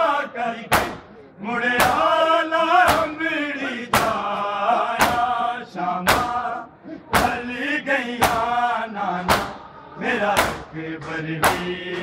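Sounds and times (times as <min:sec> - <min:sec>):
men chanting in unison: 0:00.0 - 0:12.0.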